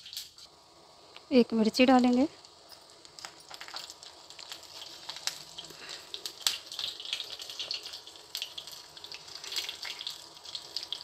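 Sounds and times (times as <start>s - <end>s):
crackles and pops: 0.0s - 11.0s
seeds sizzling in hot oil: 0.0s - 11.0s.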